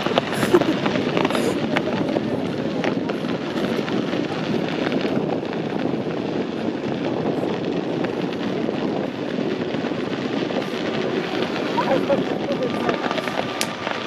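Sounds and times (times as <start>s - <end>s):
distant fireworks rumble: 0.0s - 14.0s
faint firework pops and crackles: 0.0s - 14.0s.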